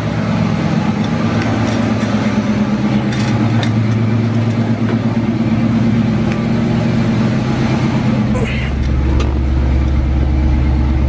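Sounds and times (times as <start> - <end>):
car engine idling: 0.0 - 11.0
heater running: 0.0 - 11.0.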